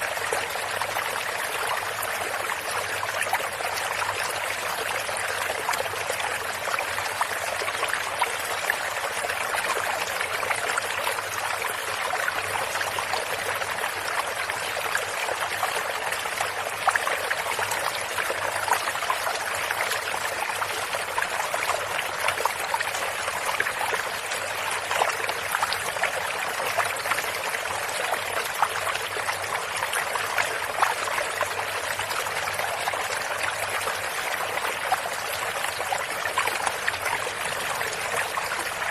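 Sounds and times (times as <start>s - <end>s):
stream splashing and trickling: 0.0s - 38.9s.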